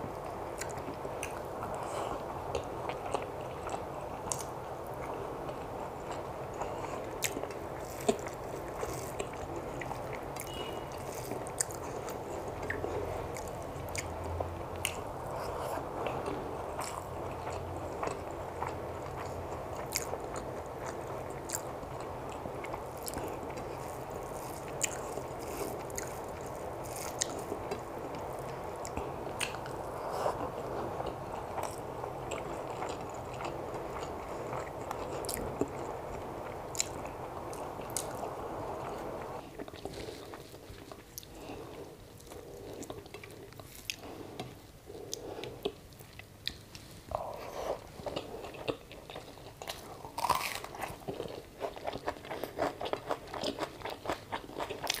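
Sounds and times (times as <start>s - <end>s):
person chewing: 6.1s - 55.0s.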